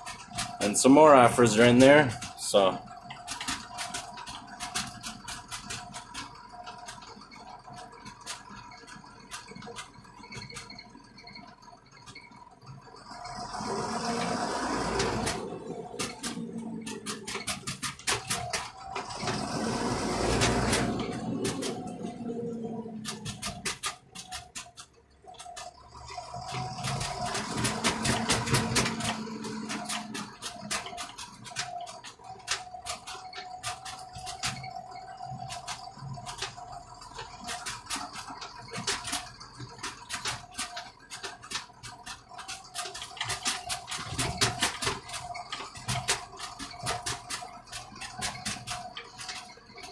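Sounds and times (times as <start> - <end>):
clatters and rattles: 0.0 - 49.9
tractor engine running: 0.0 - 49.9.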